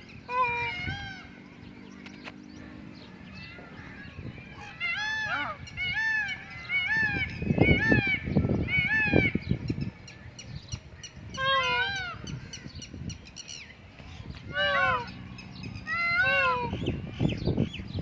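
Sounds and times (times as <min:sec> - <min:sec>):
peafowl honking calls: 0:00.0 - 0:01.7, 0:02.6 - 0:17.0
wind buffeting microphone: 0:00.0 - 0:18.0.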